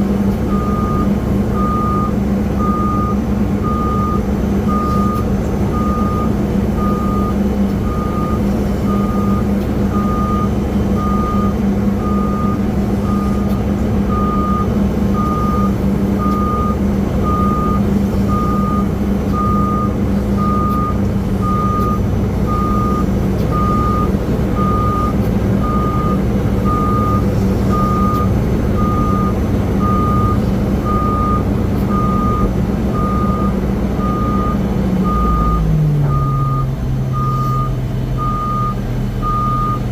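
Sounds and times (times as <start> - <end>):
low engine drone: 0.0 - 39.9
reversing alarm beeping: 0.5 - 39.9.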